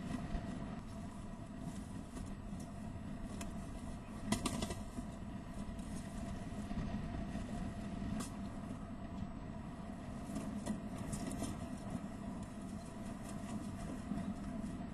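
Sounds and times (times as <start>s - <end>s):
faint electrical hum: 0.0s - 14.9s
low rumbling noise: 0.0s - 14.9s.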